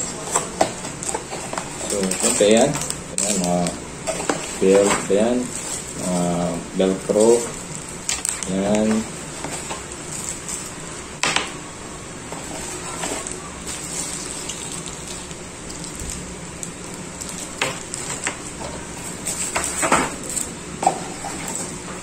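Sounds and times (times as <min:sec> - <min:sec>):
plastic packaging rustling: 0:00.0 - 0:11.2, 0:12.2 - 0:22.0.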